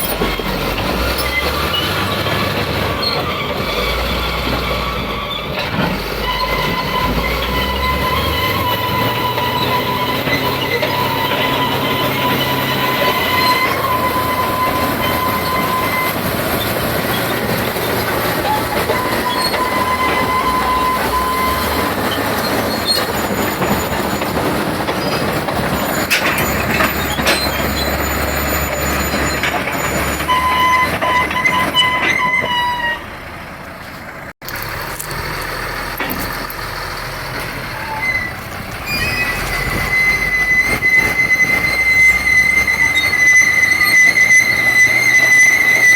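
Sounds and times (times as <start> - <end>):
metallic squeal of steel tracks: 0.0 - 33.3, 37.3 - 45.9
bulldozer rumble: 0.0 - 45.9.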